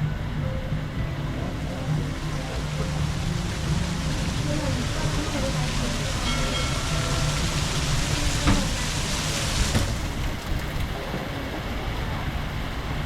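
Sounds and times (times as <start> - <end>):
boat engine rumbling: 0.0 - 13.0
heavy rain hissing: 0.0 - 13.0.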